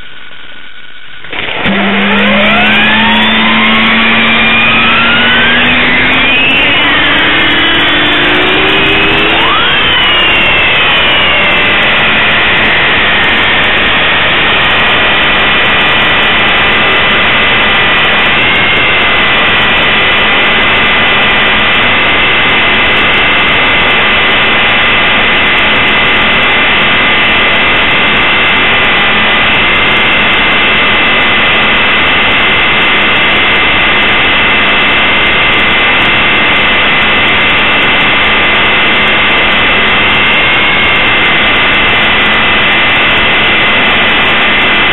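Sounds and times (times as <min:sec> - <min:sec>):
rc helicopter motor whine: 0:01.2 - 0:31.1, 0:37.4 - 0:44.9.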